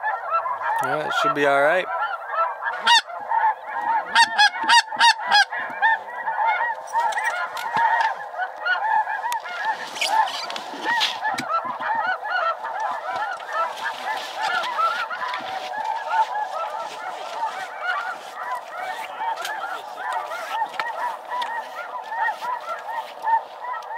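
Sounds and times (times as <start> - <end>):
geese honking: 0.0 - 23.9.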